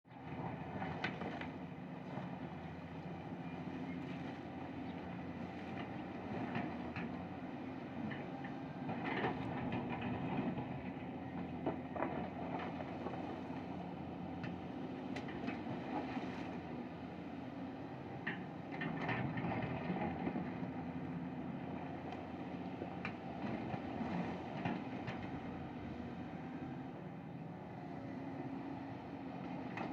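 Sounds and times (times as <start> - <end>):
excavator diesel engine running: 0.1 - 29.9.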